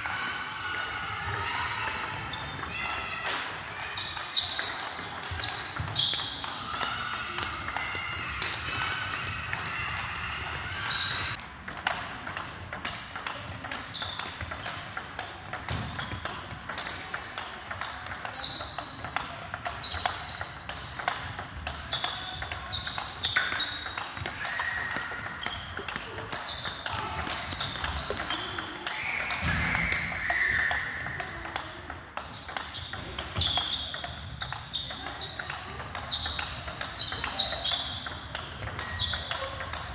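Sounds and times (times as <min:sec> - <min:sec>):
table tennis ball clicking: 0:04.1 - 0:39.9.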